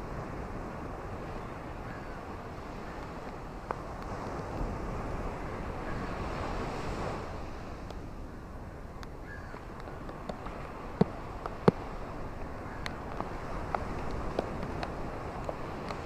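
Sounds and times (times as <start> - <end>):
ocean waves washing ashore: 0.0 - 16.0.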